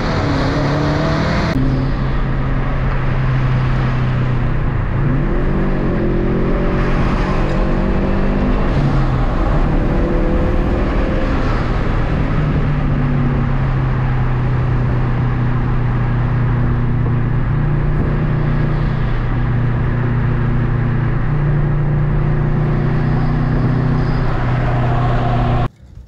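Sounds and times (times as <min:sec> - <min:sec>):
car engine drone: 0:00.0 - 0:26.0
road and tyre noise: 0:00.0 - 0:26.0.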